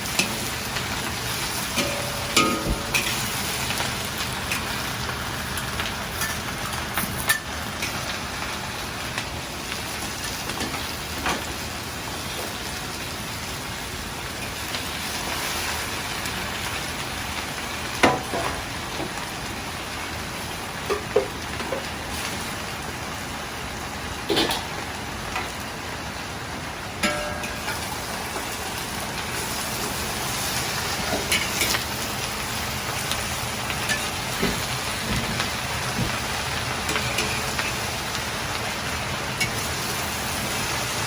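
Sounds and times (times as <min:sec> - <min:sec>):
food sizzling in oil: 0:00.0 - 0:41.0.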